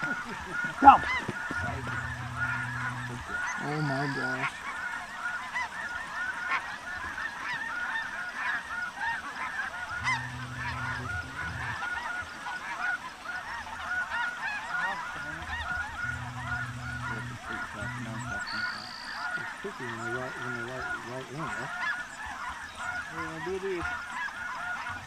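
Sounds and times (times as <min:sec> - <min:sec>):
flock of geese calling: 0:00.0 - 0:25.0.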